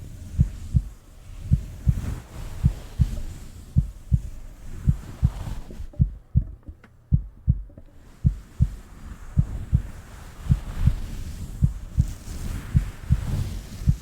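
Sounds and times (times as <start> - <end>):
heartbeat thumps: 0.0 - 14.0.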